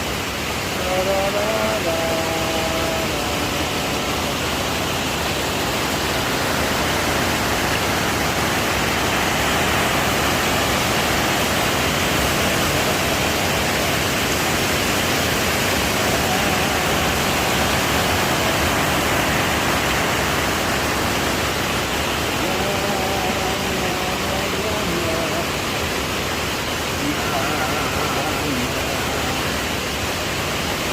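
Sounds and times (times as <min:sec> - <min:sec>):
steady rushing noise: 0:00.0 - 0:30.9.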